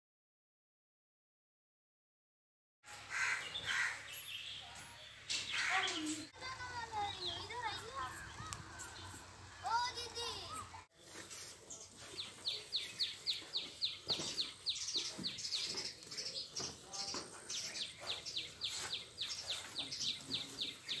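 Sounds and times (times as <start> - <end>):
bird chirping: 2.9 - 21.0.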